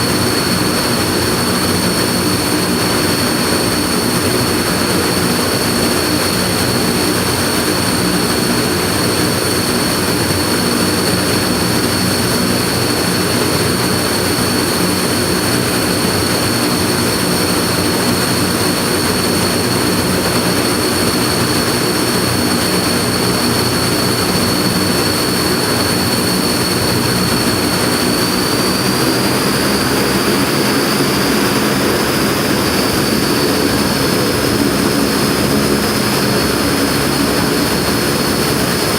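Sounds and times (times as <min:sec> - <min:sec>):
turboprop engines running: 0:00.0 - 0:38.9.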